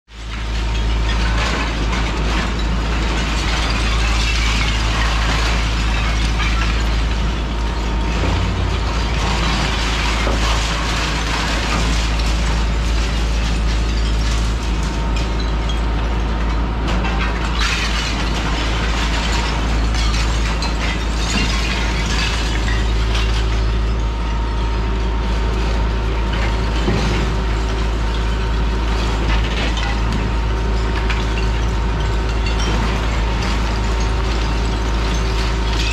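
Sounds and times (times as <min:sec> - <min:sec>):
crunching and clatter of debris: 0:00.1 - 0:35.9
excavator diesel engine: 0:00.2 - 0:35.9.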